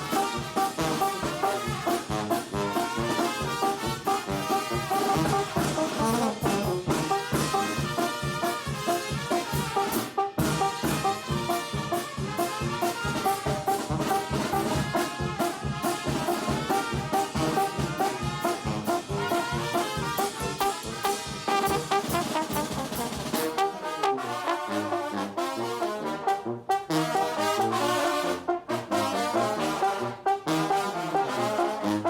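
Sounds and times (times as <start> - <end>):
trumpets and trombones: 0.0 - 32.0.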